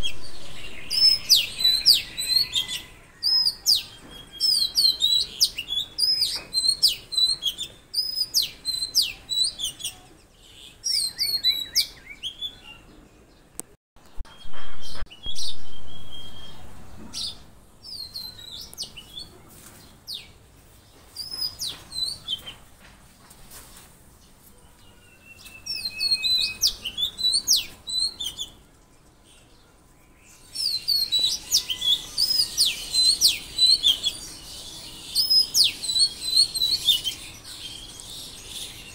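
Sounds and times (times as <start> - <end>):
songbirds calling and singing: 0.0 - 38.9.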